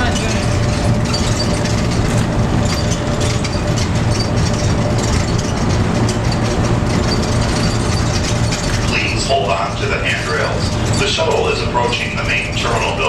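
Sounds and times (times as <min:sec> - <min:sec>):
shuttle car rumbling: 0:00.0 - 0:13.0.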